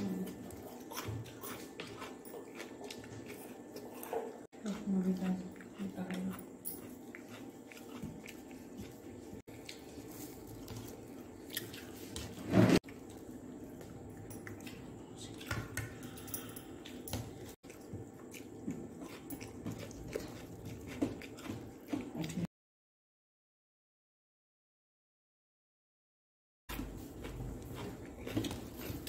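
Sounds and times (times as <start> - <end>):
chewing: 0.0 - 22.5, 26.7 - 29.0.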